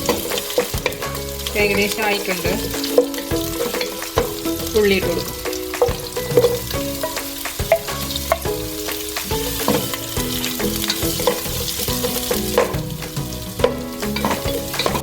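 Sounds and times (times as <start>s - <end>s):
onions sizzling in a pan: 0.0s - 15.0s
spatula scraping and tapping pan: 0.0s - 15.0s.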